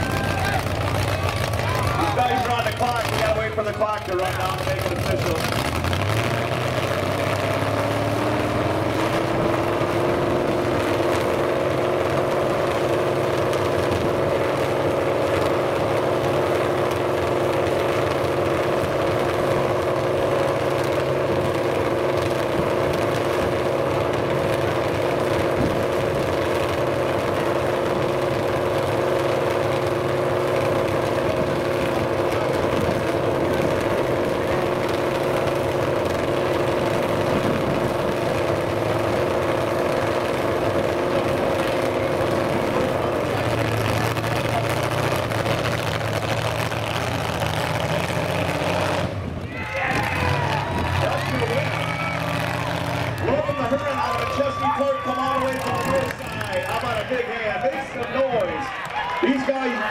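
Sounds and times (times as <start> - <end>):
car engine revving: 0.0 - 58.2.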